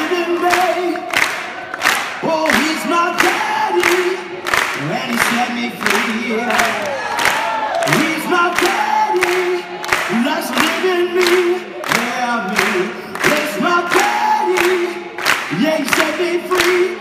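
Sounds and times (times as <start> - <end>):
man beatboxing: 2.1 - 6.8, 7.9 - 17.0.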